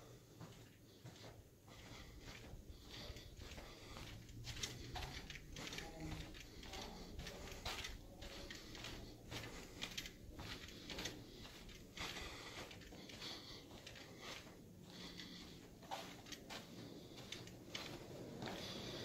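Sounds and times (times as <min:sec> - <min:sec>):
faint low hum: 0:00.0 - 0:19.0
soft footsteps on carpet: 0:00.0 - 0:19.0.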